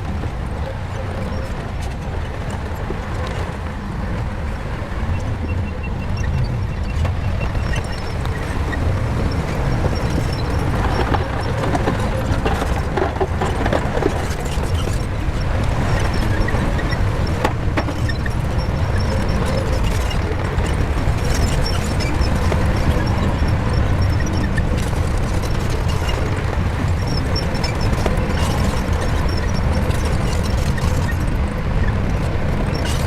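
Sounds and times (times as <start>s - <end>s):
bulldozer diesel engine rumbling: 0.0s - 33.0s.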